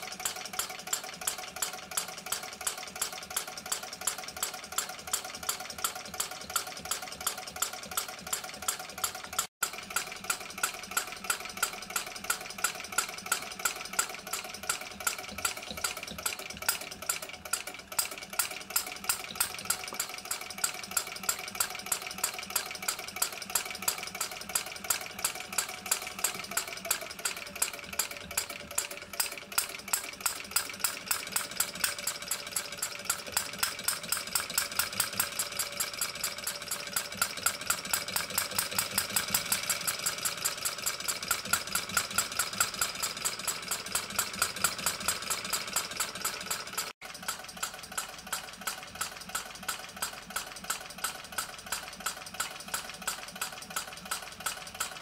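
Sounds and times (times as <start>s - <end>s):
rapid valve gear clicking: 0.0s - 55.0s
small engine running: 0.0s - 55.0s.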